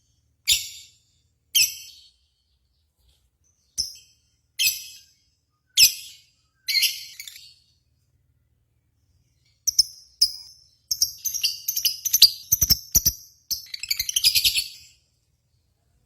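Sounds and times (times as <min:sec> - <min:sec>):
birds chirping and trilling: 0:00.5 - 0:08.0, 0:09.1 - 0:15.2.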